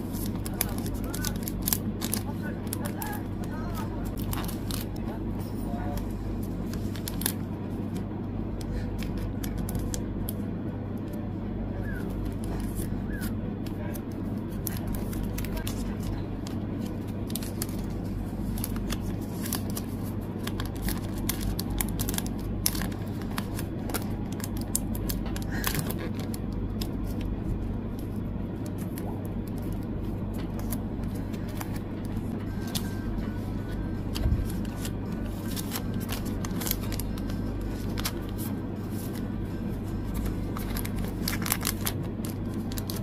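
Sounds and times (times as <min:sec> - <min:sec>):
plastic sleeves crinkling: 0:00.0 - 0:05.1, 0:06.4 - 0:08.0, 0:11.7 - 0:43.0
low background hum: 0:00.0 - 0:43.0.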